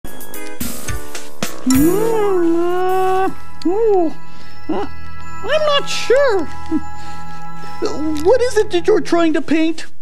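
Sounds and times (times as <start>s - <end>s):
title music with held chords: 0.2s - 9.2s.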